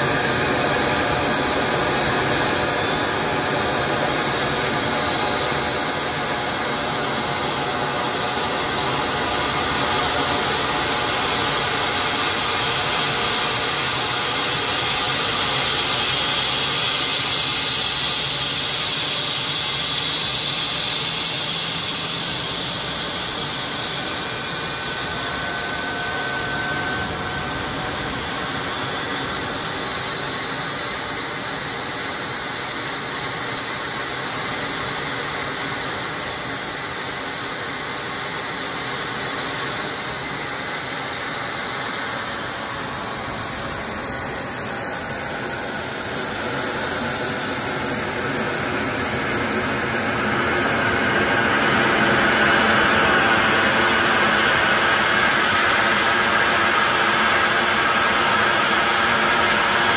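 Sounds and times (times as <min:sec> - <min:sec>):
high turbine whine: 0:00.0 - 0:59.9
rushing turbine exhaust: 0:00.0 - 0:59.9.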